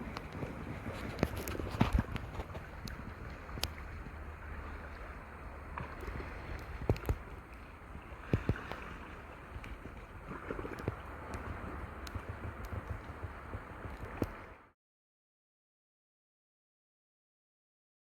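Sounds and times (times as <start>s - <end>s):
wind rumbling on microphone: 0.0s - 14.7s
water splashing around a kayak: 0.0s - 14.8s.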